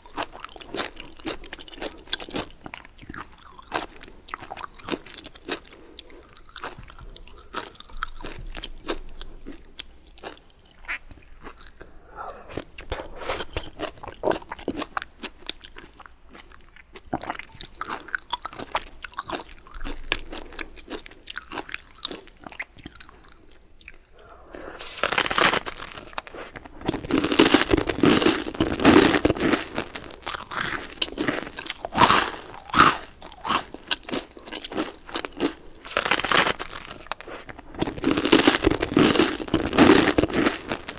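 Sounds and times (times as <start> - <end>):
crunchy biting and chewing: 0.0 - 40.9
soft chewing and mouth clicks: 0.0 - 40.9.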